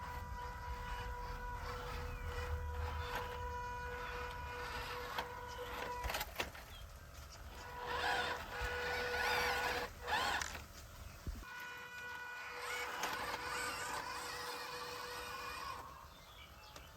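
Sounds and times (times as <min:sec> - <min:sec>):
small electric motor whining: 0:00.0 - 0:16.9.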